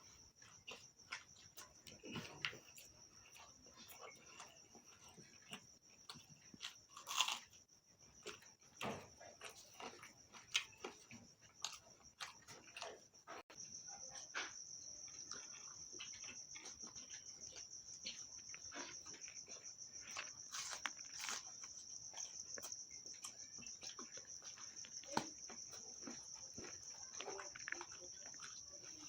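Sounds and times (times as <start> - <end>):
insect trill: 0.0 - 29.0
person chewing with mouth clicks: 0.4 - 7.6, 9.3 - 12.9, 15.0 - 29.0.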